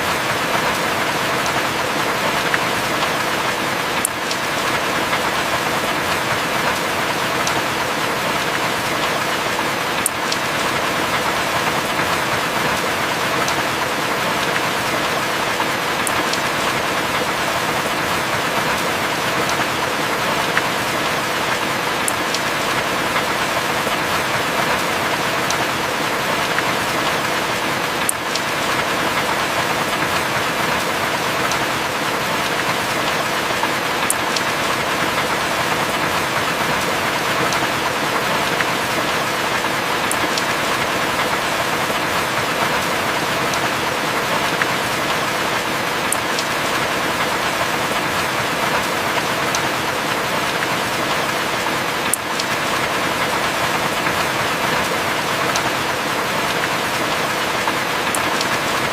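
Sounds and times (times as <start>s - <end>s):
heavy rain falling: 0.0s - 58.9s
sharp raindrop ticks: 0.2s - 58.9s.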